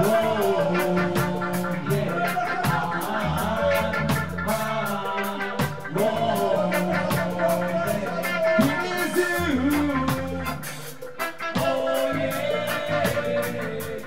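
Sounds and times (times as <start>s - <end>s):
drum kit: 0.0s - 14.0s
electric guitar: 0.0s - 14.0s
man singing: 0.0s - 14.0s.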